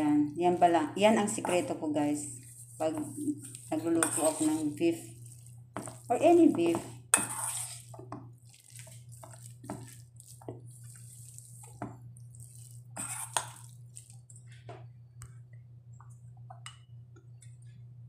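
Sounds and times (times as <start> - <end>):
spoon stirring meat in metal bowl: 0.0 - 14.8.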